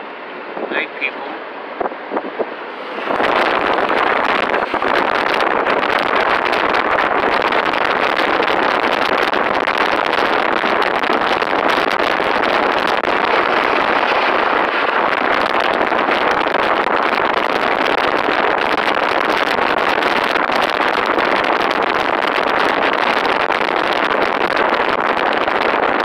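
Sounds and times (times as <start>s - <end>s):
vehicle road noise: 0.0s - 26.0s
wind rush: 0.0s - 26.0s.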